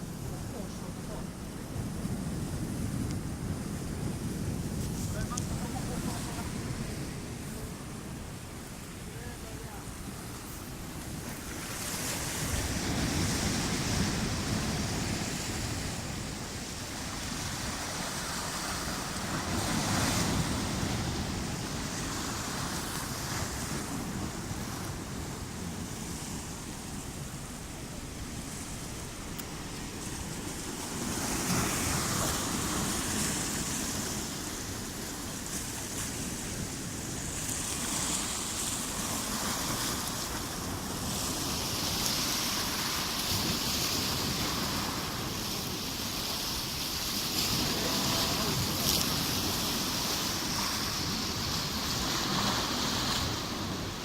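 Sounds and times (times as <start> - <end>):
sea waves breaking: 0.0 - 54.0
wind rumbling on microphone: 0.0 - 54.0.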